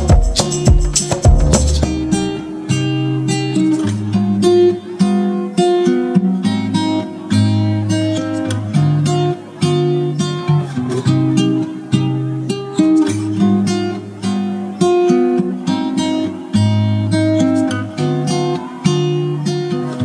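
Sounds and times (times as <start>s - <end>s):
acoustic guitar plucked and strummed: 0.0s - 20.0s.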